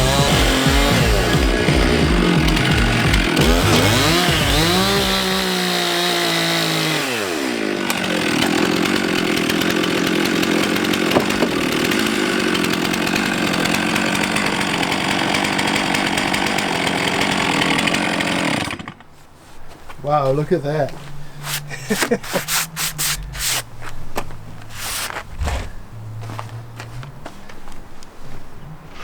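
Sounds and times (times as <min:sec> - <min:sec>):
chainsaw ripping a log: 0:00.0 - 0:19.2, 0:21.3 - 0:26.4.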